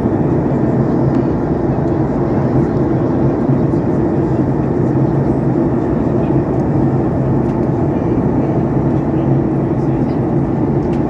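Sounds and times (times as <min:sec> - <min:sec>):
aircraft cabin engine noise: 0:00.0 - 0:11.0.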